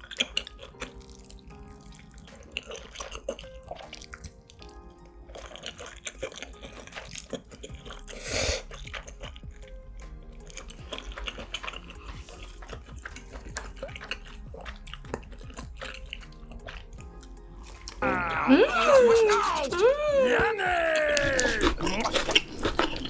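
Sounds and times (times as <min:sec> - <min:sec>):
wet chewing: 0:00.0 - 0:20.0, 0:20.9 - 0:23.0
soft background music: 0:00.0 - 0:23.0.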